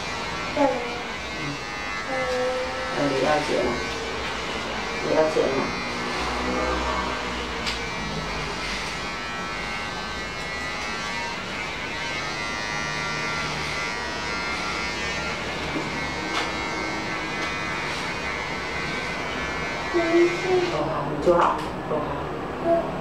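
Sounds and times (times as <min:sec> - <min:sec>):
electric hair clippers buzzing: 0:00.0 - 0:21.8.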